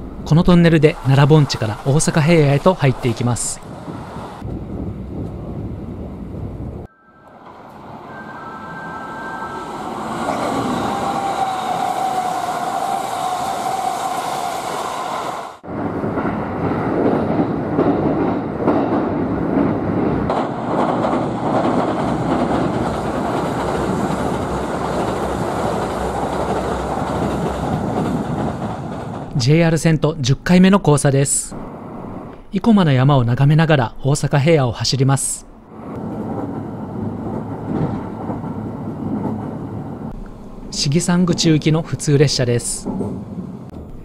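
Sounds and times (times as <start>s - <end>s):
train wheels on rails: 0.0s - 6.8s, 7.4s - 30.0s, 35.7s - 44.0s
electric train whine: 0.0s - 29.3s, 35.5s - 44.0s.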